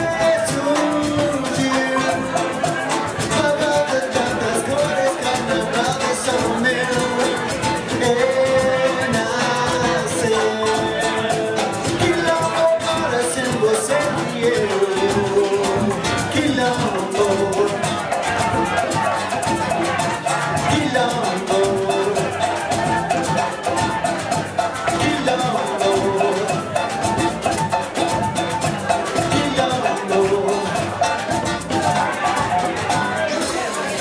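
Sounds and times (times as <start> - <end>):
flute melody: 0.0 - 34.0
latin percussion rhythm: 0.0 - 34.0.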